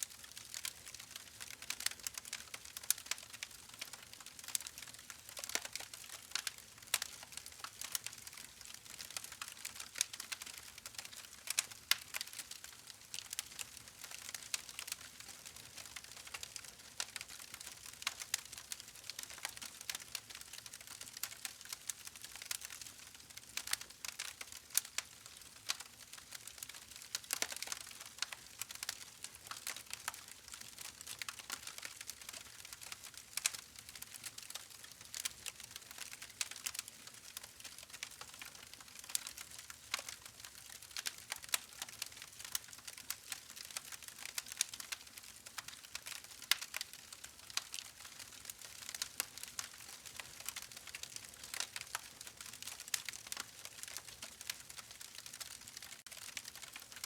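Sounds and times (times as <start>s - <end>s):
campfire crackling and popping: 0.2s - 57.0s.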